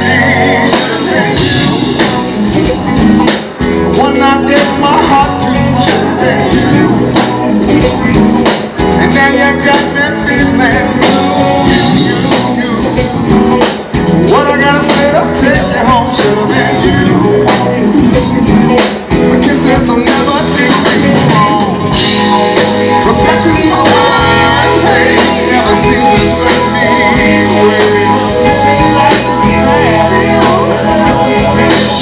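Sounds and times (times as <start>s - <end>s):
person singing: 0.0s - 8.2s, 8.8s - 13.6s, 14.2s - 18.2s, 19.3s - 32.0s
drums: 0.0s - 32.0s
electric guitars: 0.0s - 32.0s
keyboard: 0.0s - 32.0s.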